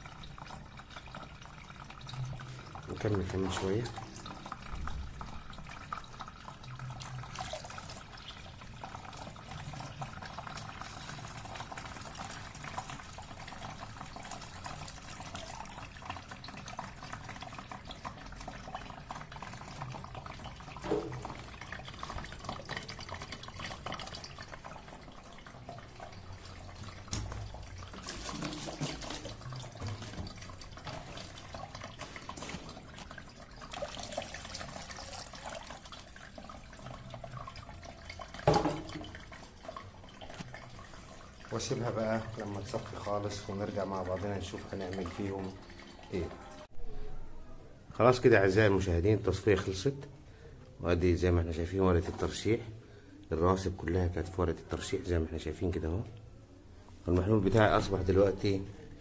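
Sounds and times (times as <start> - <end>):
liquid pouring and trickling: 0.0 - 47.1, 48.0 - 59.0.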